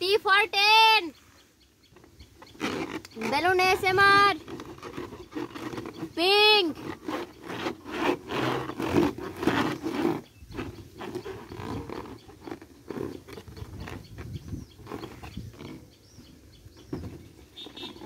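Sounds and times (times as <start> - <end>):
balloon squeaking and rubbing: 2.4 - 18.0.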